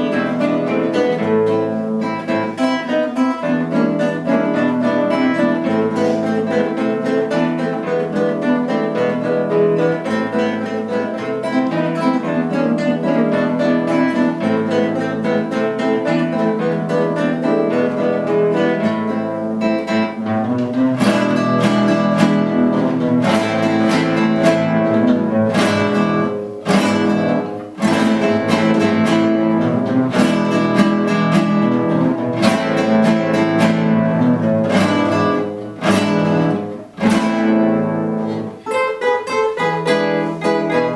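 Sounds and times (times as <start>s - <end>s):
acoustic guitar ensemble playing: 0.0s - 40.9s.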